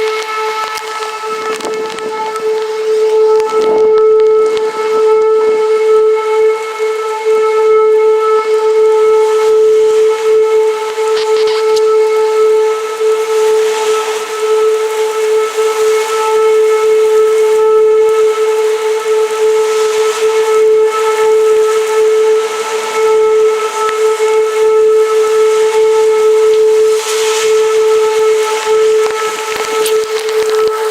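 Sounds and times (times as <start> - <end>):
rushing hiss of wind: 0.0 - 30.9
wind whistling: 0.0 - 30.9.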